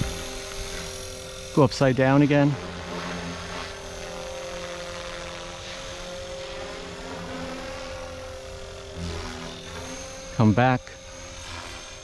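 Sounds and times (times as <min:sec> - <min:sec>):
rc helicopter whine: 0:00.0 - 0:12.0.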